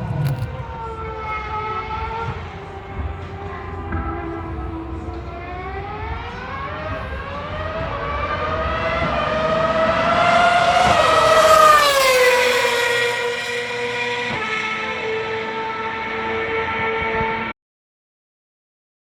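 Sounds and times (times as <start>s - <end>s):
racing car engine passing by: 0.0s - 17.5s.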